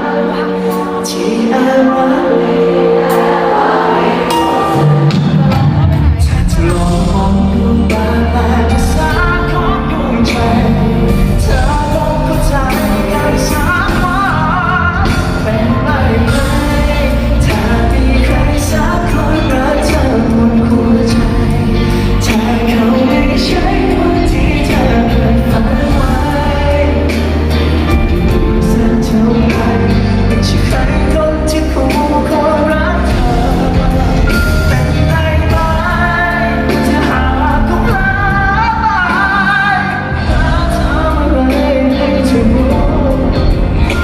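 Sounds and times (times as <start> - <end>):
person singing with band: 0.0 - 44.0
heavy bass line: 4.3 - 44.0.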